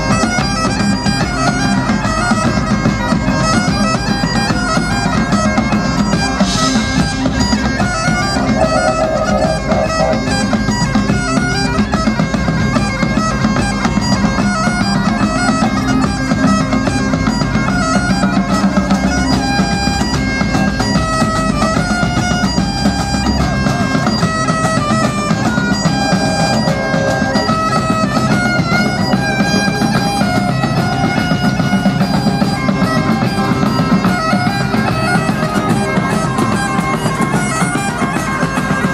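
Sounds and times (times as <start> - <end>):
bagpipes playing a tune: 0.0 - 38.9
heavy drum section: 4.9 - 21.1, 23.4 - 38.9.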